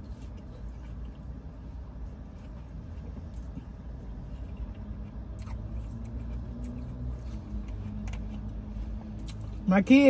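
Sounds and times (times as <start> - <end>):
chewing watermelon: 0.0 - 9.6
low hum inside a car: 0.0 - 10.0.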